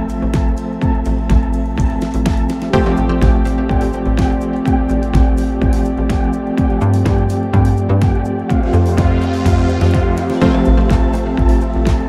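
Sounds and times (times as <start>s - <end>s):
background music with held chords: 0.0s - 12.0s
kick drum thumps: 0.0s - 12.0s.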